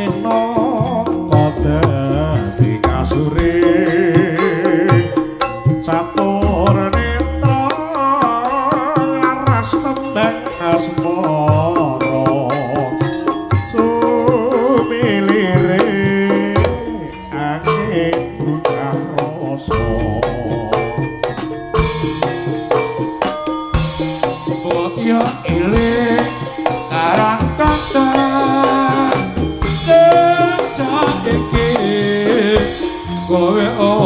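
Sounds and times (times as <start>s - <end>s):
drums and percussion beat: 0.0s - 34.0s
wavering melody line: 0.0s - 34.0s.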